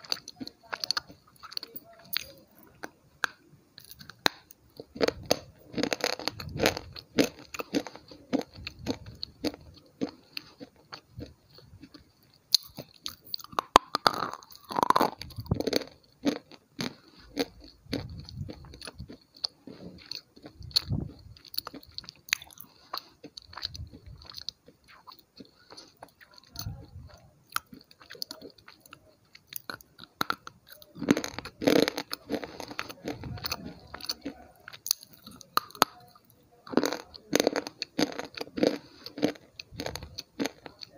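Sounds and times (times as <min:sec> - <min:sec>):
crunchy food chewing: 0:00.0 - 0:40.9.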